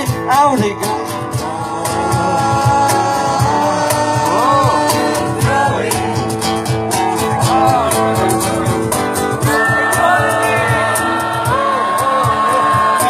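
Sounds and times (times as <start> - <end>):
guitar accompaniment with beat: 0.0 - 13.0
lead melody with bending notes: 0.0 - 13.0
person singing: 0.0 - 13.0.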